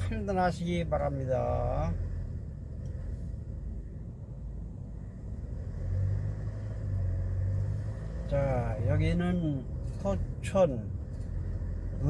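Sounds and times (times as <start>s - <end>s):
diesel engine rumble: 0.0s - 12.0s
road noise: 0.0s - 12.0s.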